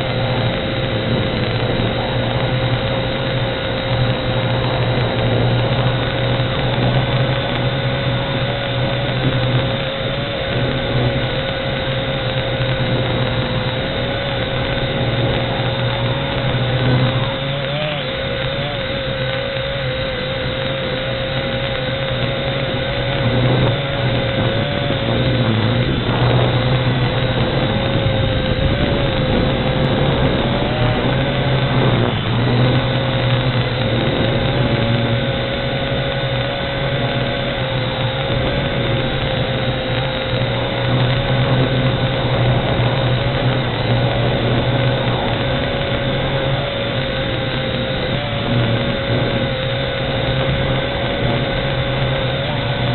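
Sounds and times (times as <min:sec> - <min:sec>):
dense rushing noise: 0:00.0 - 0:52.9
drone propellers whining: 0:00.0 - 0:52.9.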